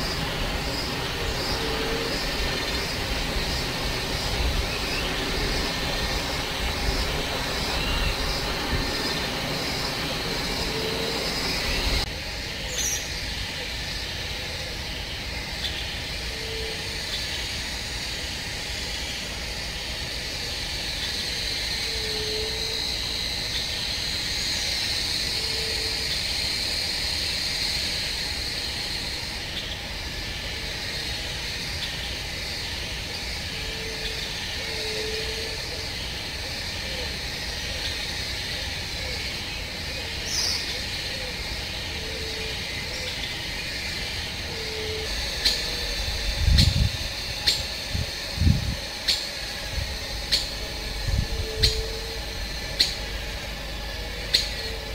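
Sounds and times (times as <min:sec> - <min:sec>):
high insect drone: 0:00.0 - 0:54.9.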